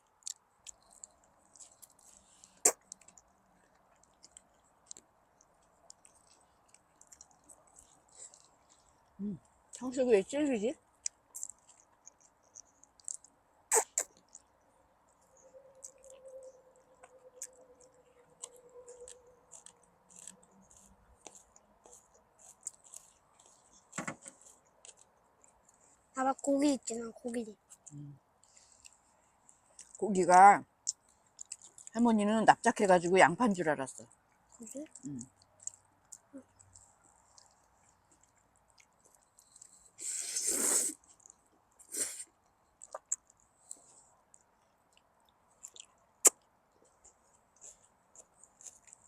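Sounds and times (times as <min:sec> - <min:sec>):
quiet chewing: 0:00.0 - 0:10.0, 0:10.8 - 0:32.1, 0:33.9 - 0:49.0.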